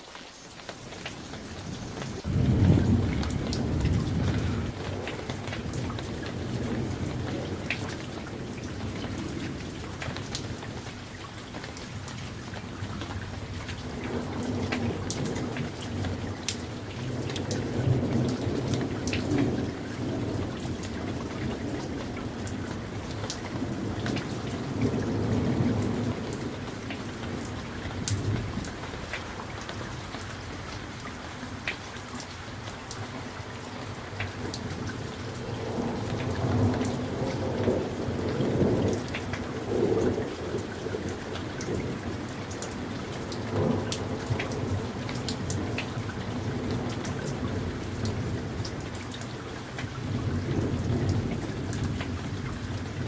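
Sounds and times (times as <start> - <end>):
raindrops ticking close by: 0.0 - 53.0
steady rain: 0.0 - 53.0
low rolls of thunder: 0.8 - 53.0.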